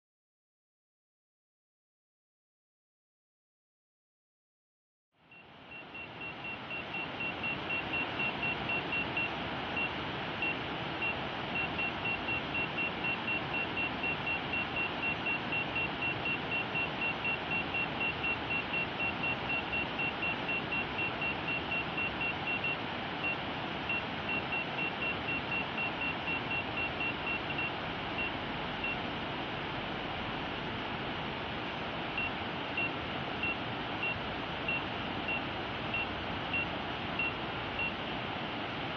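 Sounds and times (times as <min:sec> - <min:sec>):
rapid high warning beeps: 0:05.3 - 0:30.6, 0:32.1 - 0:38.1
steady rushing noise: 0:06.2 - 0:38.9.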